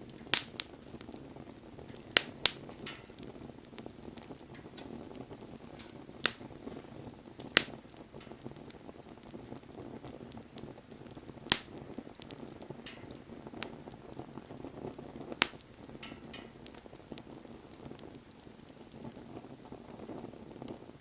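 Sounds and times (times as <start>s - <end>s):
sharp pops of burning wood: 0.0s - 21.0s
wood bonfire crackling: 0.0s - 21.0s.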